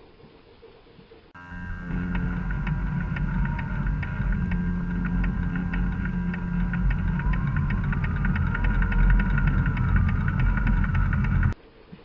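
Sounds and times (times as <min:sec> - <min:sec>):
model train motor humming: 0:01.4 - 0:11.6.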